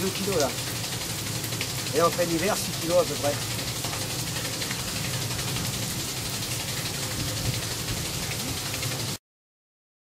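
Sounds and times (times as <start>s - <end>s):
falling water rushing: 0.0s - 9.2s.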